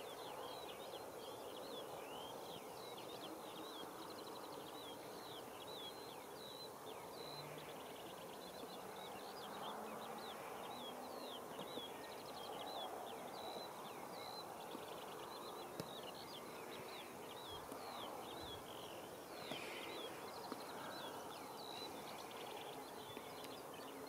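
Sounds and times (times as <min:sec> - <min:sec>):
birds chirping: 0:00.0 - 0:24.0
steady background hiss: 0:00.0 - 0:24.0.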